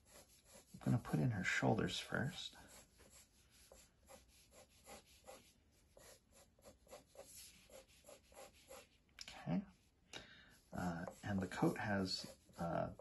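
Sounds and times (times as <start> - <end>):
pencil sketching on paper: 0.0 - 9.0, 9.7 - 13.0.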